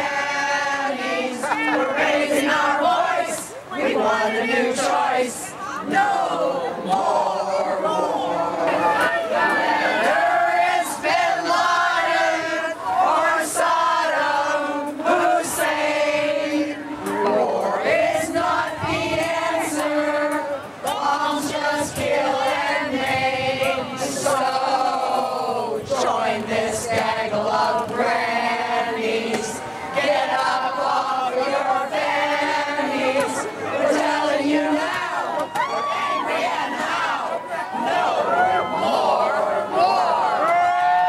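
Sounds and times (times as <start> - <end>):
group of women singing: 0.0 - 41.0.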